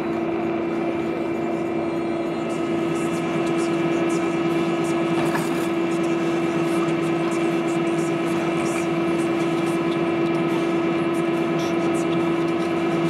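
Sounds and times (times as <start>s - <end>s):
ski lift rope humming: 0.0s - 13.0s.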